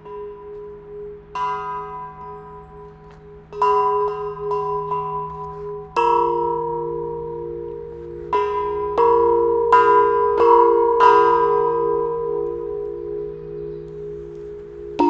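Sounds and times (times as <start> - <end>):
metal tubular chimes ringing: 0.0 - 15.0.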